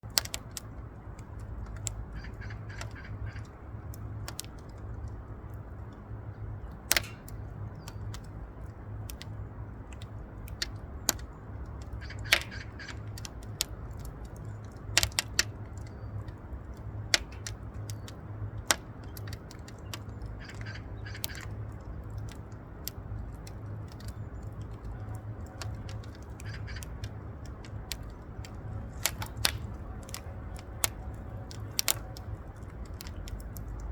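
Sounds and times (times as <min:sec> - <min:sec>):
firewood burning and crackling: 0:00.0 - 0:33.9.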